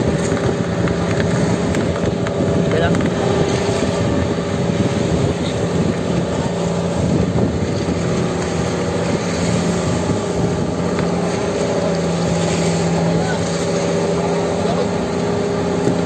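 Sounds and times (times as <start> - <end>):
boat engine running steadily: 0.0 - 16.0
water rushing past hull: 0.0 - 16.0.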